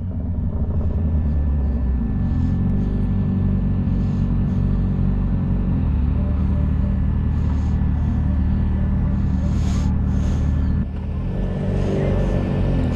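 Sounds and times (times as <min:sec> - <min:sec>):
motorcycle engine droning: 0:00.0 - 0:12.9
wind and road noise: 0:00.0 - 0:12.9.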